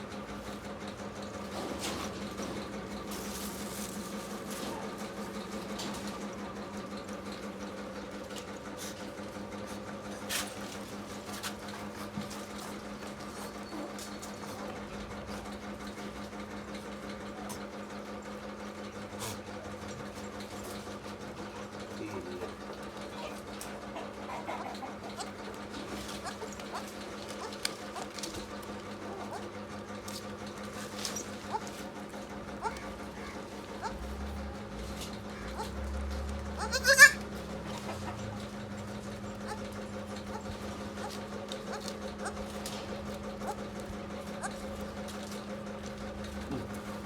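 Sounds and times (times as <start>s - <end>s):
steady mechanical hum: 0.0s - 47.0s.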